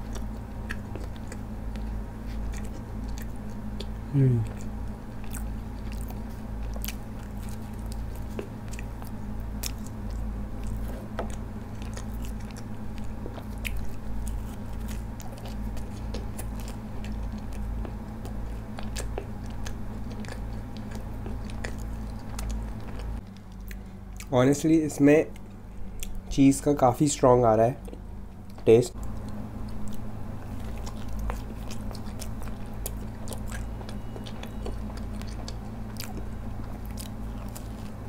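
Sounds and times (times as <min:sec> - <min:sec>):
person chewing crunchy food: 0:00.0 - 0:26.8, 0:27.4 - 0:38.0
low hum: 0:00.0 - 0:38.0.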